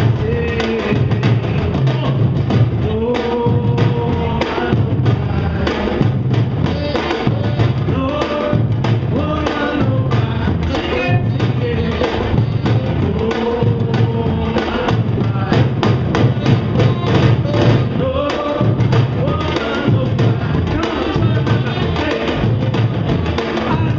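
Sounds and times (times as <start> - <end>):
deep bass drums: 0.0 - 23.9
man singing into microphone: 0.0 - 23.9
sharp drum strokes: 0.0 - 23.9.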